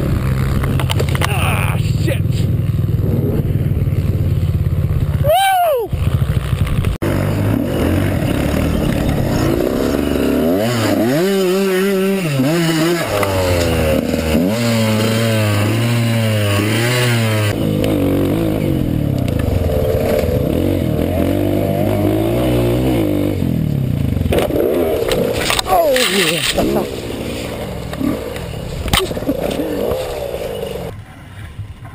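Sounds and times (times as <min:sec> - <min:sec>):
dirt bike engine revving: 0:01.6 - 0:31.0.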